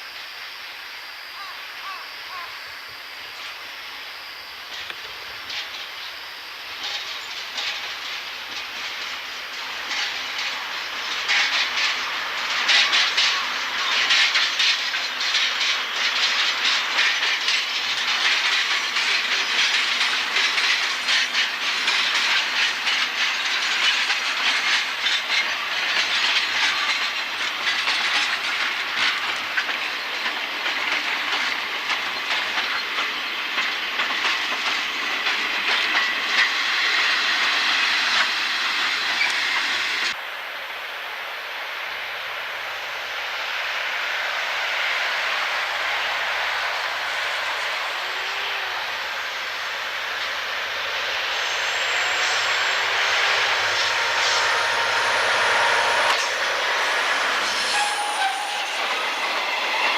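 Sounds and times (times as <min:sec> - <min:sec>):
diesel train passing: 0:00.0 - 0:59.9
steady hiss: 0:00.0 - 0:59.9
wheels clacking over rail joints: 0:04.6 - 0:40.2, 0:43.6 - 0:59.9.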